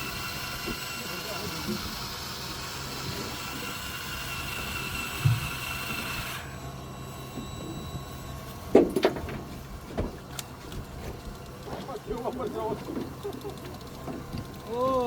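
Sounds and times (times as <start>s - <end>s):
high mechanical whine: 0.0s - 15.0s
low boat engine hum: 0.0s - 15.0s.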